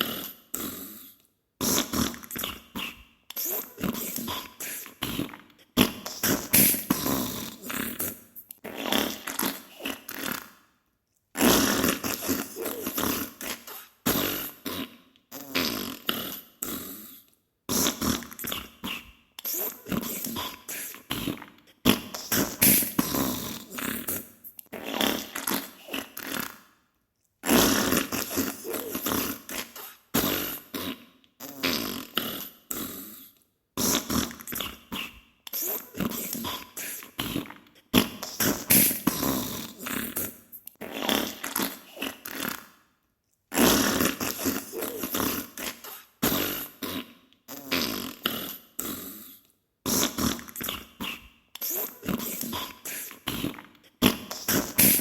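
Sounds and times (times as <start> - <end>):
wet farts sputtering: 1.6 - 10.6, 11.4 - 16.8, 17.7 - 26.6, 27.4 - 32.9, 33.8 - 42.7, 43.5 - 49.0, 49.9 - 55.0.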